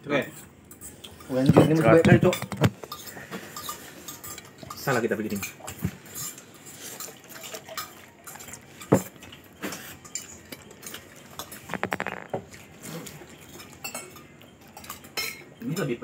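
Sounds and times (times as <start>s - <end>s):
cutlery clinking and scraping plate: 0.2s - 16.0s.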